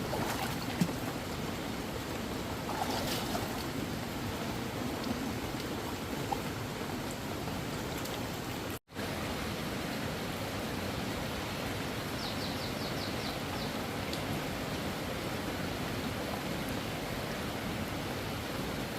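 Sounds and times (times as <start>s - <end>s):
flowing water rushing: 0.0s - 18.9s.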